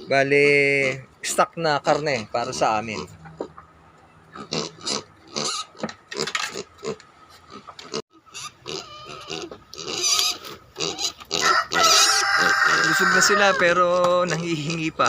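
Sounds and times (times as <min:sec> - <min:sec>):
pigs grunting and squealing: 0:00.0 - 0:03.6, 0:04.3 - 0:15.0.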